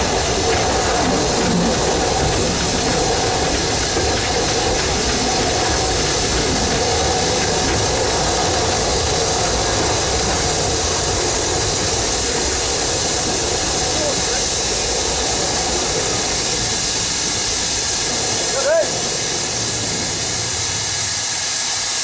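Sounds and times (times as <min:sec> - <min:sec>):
steam hiss: 0:00.0 - 0:22.0
train running noise: 0:00.0 - 0:22.0.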